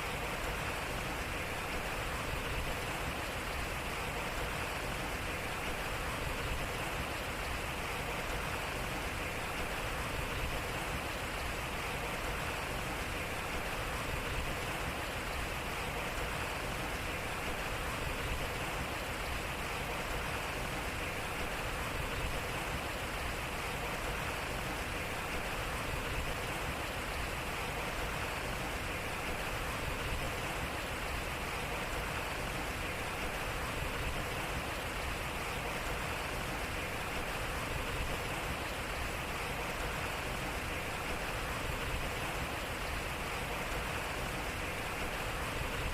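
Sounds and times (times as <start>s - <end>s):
water rushing at water wheel: 0.0s - 45.9s.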